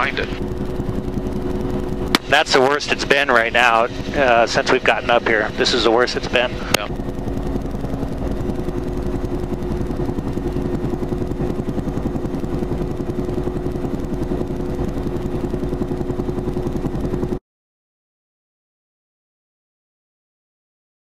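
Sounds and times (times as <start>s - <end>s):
helicopter engine and rotor: 0.0s - 17.4s.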